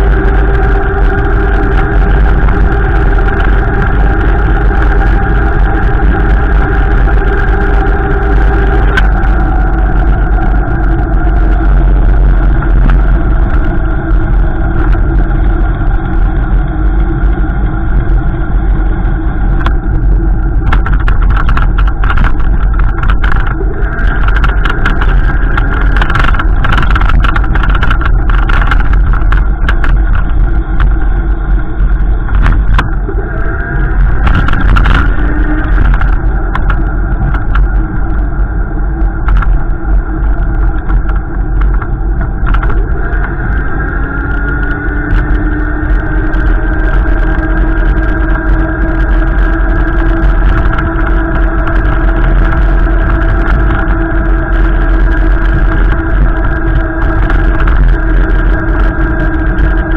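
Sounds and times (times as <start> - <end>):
car engine and road noise: 0.0 - 59.9
heavy low rumble: 0.0 - 59.9
scattered clicks: 0.2 - 16.2, 19.5 - 33.1, 33.8 - 38.4, 39.0 - 43.6, 44.2 - 59.9.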